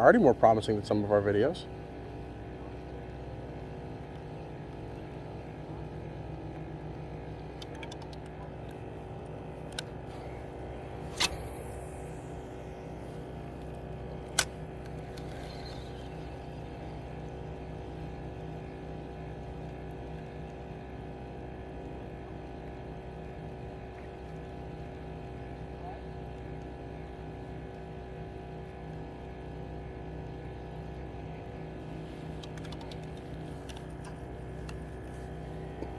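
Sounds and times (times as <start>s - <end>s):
motorboat engine running: 0.0s - 35.9s.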